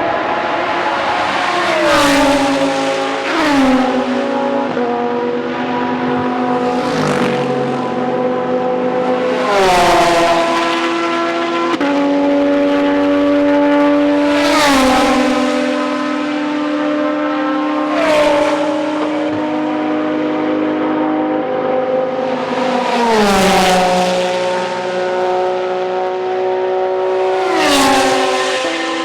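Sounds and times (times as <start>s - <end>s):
race cars passing at speed: 0.0s - 29.0s.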